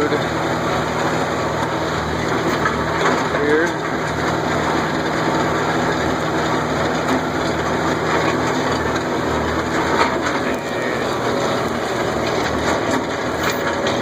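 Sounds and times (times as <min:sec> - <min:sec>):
machine rattling and knocking: 0:00.0 - 0:14.0
tractor engine running: 0:00.0 - 0:14.0.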